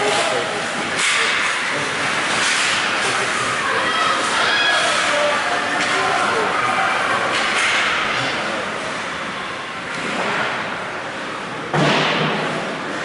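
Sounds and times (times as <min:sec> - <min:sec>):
skating and play on ice: 0:00.0 - 0:13.0.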